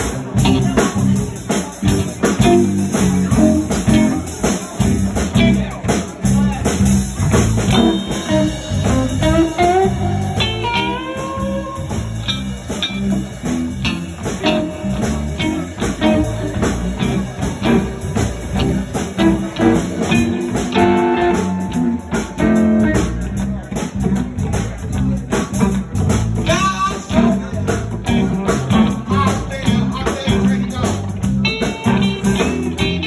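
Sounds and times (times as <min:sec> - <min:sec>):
band rhythm backing: 0:00.0 - 0:33.0
electric guitar lead: 0:00.0 - 0:33.0.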